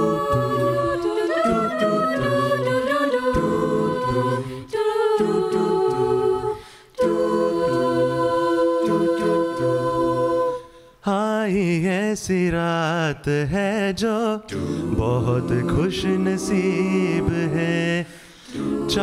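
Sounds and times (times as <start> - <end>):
a cappella group singing chords: 0.0 - 19.0.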